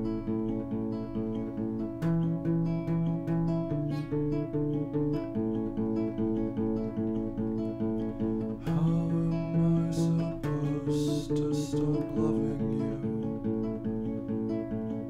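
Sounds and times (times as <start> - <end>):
acoustic guitar picking notes: 0.0 - 15.0
strummed guitar chord: 0.0 - 15.0.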